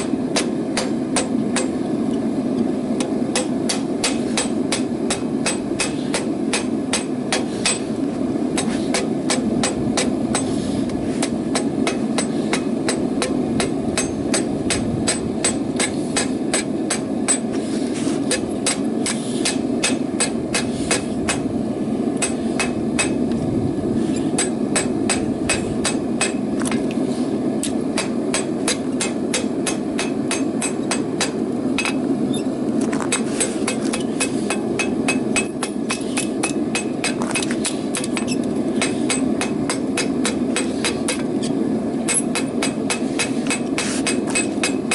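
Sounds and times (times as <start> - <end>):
hammer striking metal on anvil: 0.0 - 1.8, 3.0 - 7.9, 8.6 - 10.6, 11.2 - 17.6, 18.3 - 21.5, 22.2 - 23.2, 24.4 - 26.8, 27.6 - 32.0, 33.1 - 41.3, 42.0 - 44.9.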